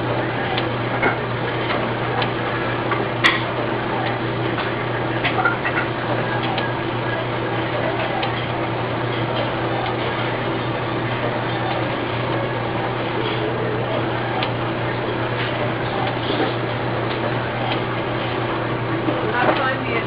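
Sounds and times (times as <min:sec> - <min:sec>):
inkjet printer running: 0:00.0 - 0:20.0.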